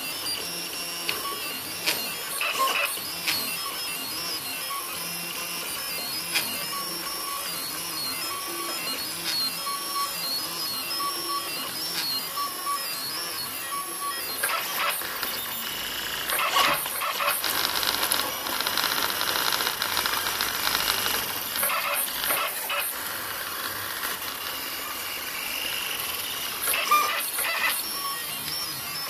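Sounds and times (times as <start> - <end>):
stepper motors whining and buzzing: 0.0 - 29.0.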